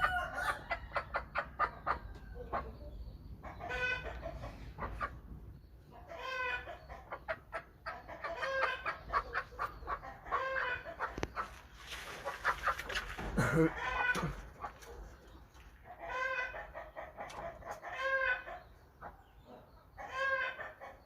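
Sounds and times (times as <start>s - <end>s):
chickens calling: 0.0s - 21.0s.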